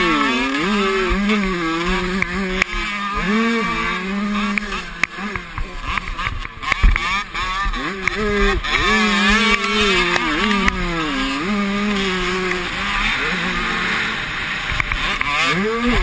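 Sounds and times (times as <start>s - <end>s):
motocross motorcycle engine revving: 0.0s - 16.0s.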